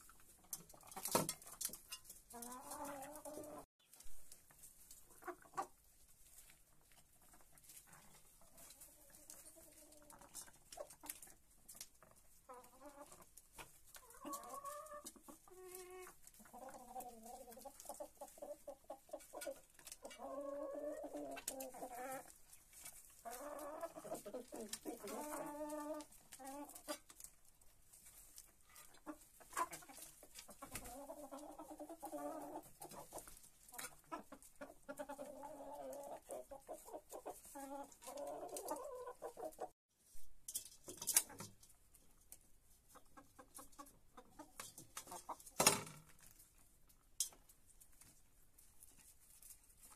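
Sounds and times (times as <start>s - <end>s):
hens clucking: 0.0s - 39.8s, 40.8s - 49.9s.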